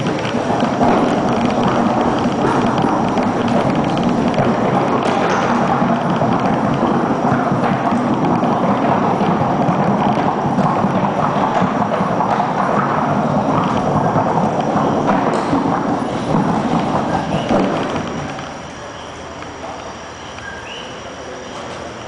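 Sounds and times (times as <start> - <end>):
horse hooves on hard track: 0.0 - 18.8.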